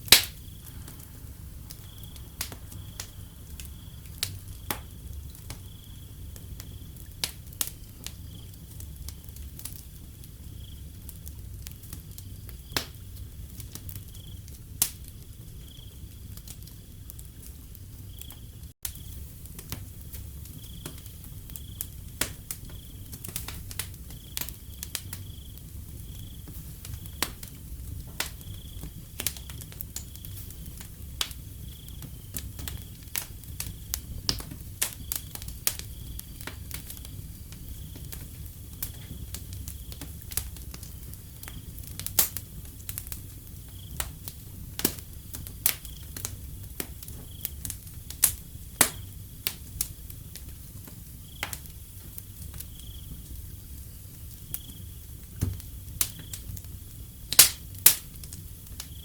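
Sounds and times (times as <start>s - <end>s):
wood fire crackling: 0.0s - 59.0s
crickets chirping: 0.1s - 9.0s, 9.9s - 11.0s, 14.0s - 14.6s, 15.2s - 59.0s.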